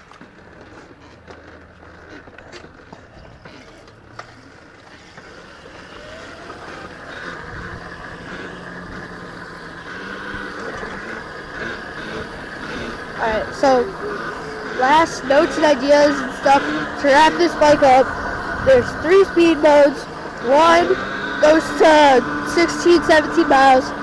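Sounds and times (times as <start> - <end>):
wind and road noise: 0.0 - 24.0
electric motor whining: 0.2 - 24.0.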